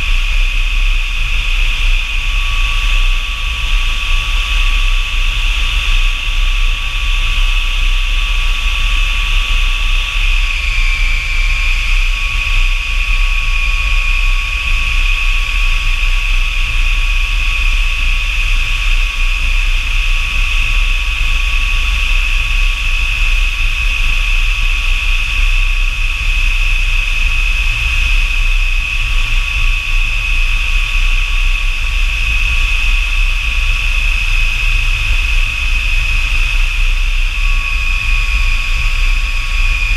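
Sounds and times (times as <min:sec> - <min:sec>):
jet engine whine and rumble: 0:00.0 - 0:39.9.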